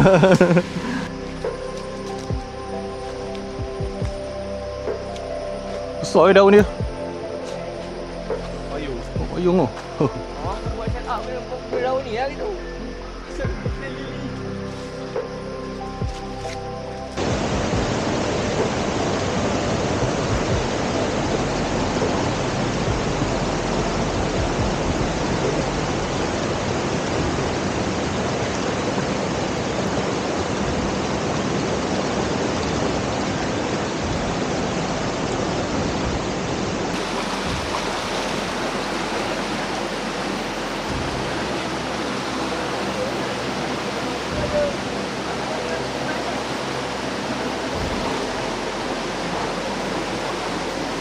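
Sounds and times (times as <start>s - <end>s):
stream rushing over rocks: 0.0s - 12.6s, 13.2s - 51.0s.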